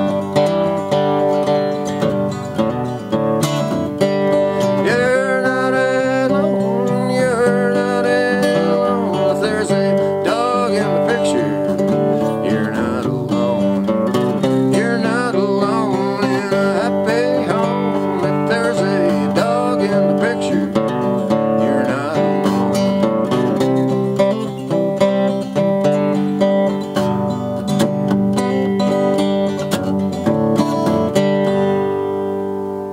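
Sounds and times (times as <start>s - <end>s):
acoustic guitar strumming and sliding: 0.0s - 32.9s.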